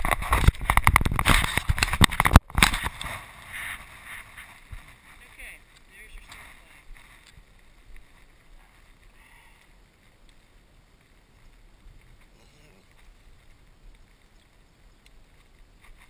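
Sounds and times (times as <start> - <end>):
wind rumble on microphone: 0.0 - 16.0
soft hiss: 2.8 - 16.0.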